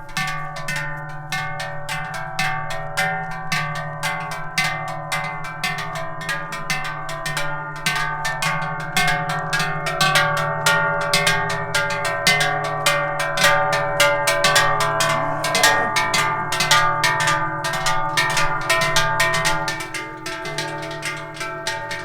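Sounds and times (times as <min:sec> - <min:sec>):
cowbells clanging: 0:00.0 - 0:22.0.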